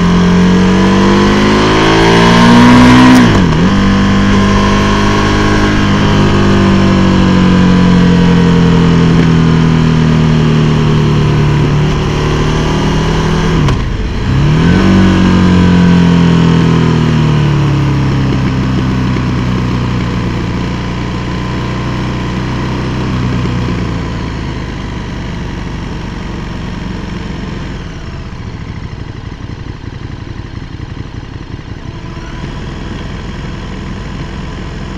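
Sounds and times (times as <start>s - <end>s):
motorcycle engine decelerating: 0.0s - 34.9s.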